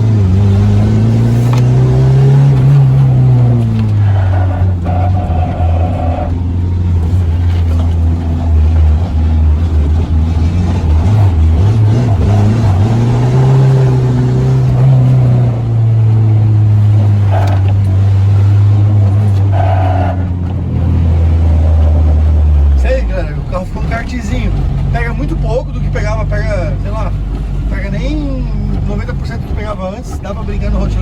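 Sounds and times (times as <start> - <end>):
car engine running under load: 0.0 - 31.0.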